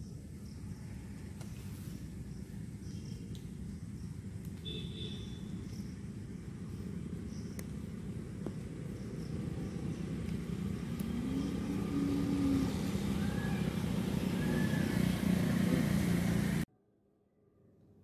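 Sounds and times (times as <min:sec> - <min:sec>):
motor vehicle engine rumble: 0:00.1 - 0:16.7.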